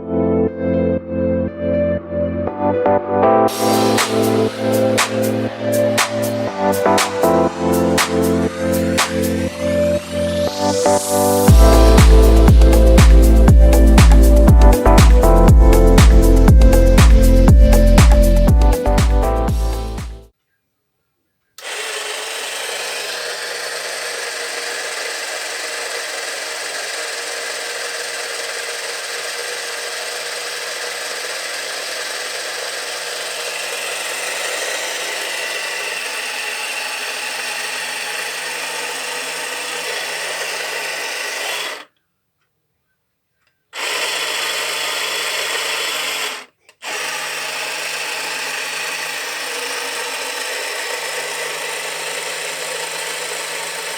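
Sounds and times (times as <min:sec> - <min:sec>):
small electric motor whirring: 0:03.5 - 0:18.9, 0:21.6 - 0:42.0, 0:43.8 - 0:53.9.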